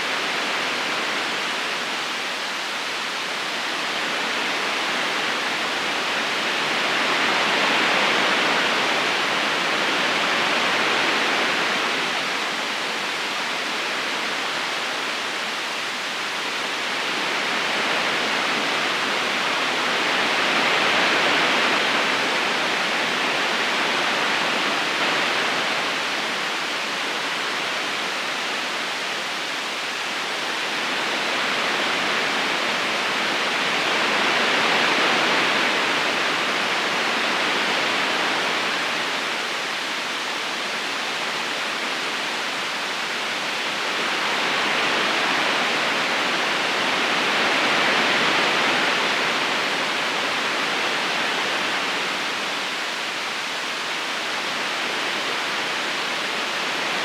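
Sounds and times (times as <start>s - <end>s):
river flowing over stones: 0.0s - 57.0s.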